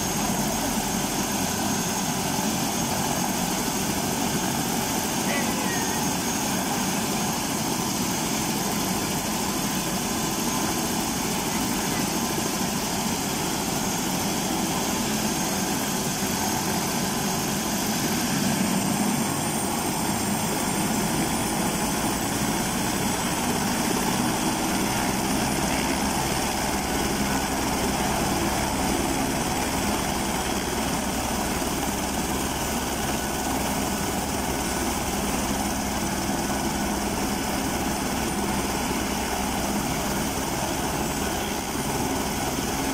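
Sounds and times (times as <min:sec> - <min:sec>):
helicopter engine and rotors: 0:00.0 - 0:42.9
high turbine whine: 0:00.0 - 0:42.9.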